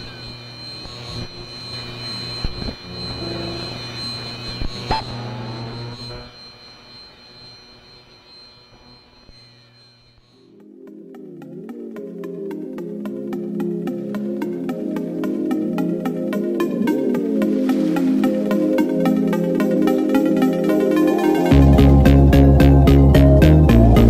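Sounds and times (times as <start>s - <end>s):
electronic whine of high tones: 0.0s - 24.0s
low hum: 0.0s - 24.0s.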